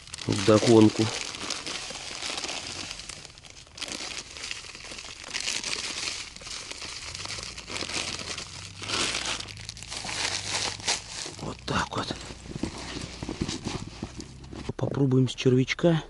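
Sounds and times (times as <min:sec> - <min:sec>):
plastic packet crinkling: 0:00.0 - 0:14.6.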